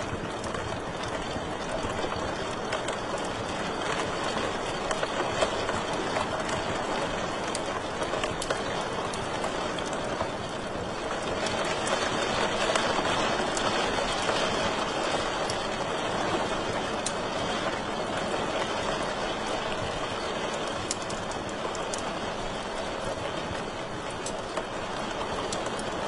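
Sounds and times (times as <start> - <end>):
fire crackling and popping: 0.0 - 26.0
wood fire hissing: 0.0 - 26.0.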